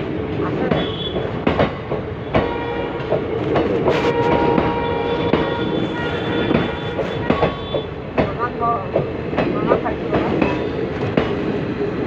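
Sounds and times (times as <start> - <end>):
train rolling rumble: 0.0 - 12.0
train wheels clattering over rail joints: 0.3 - 11.7.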